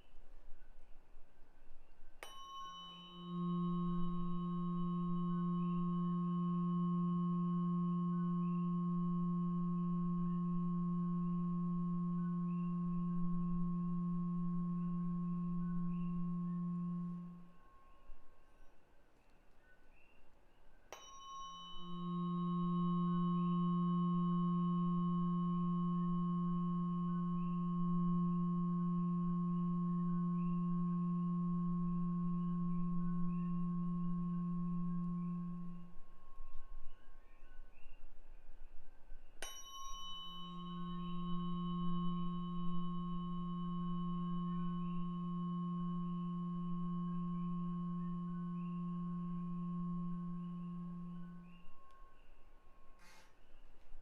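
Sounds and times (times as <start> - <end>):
tuning fork ringing: 0.0 - 20.1, 20.7 - 54.0.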